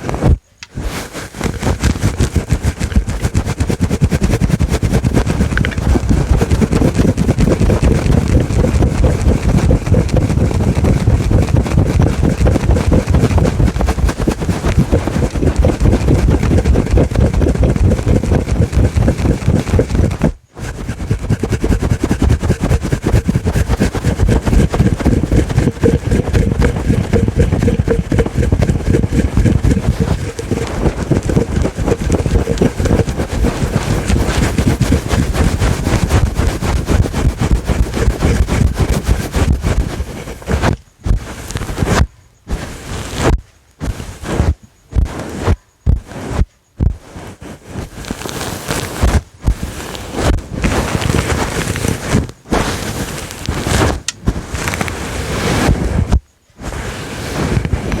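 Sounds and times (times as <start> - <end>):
fingers scratching furry mic cover: 0.0 - 58.0.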